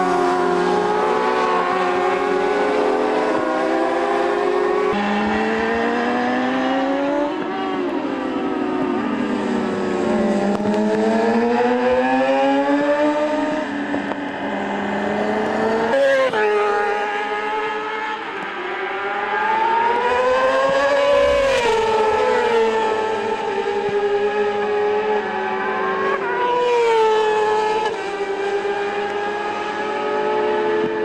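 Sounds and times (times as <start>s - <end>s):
racing motorcycle engines revving: 0.0s - 31.0s.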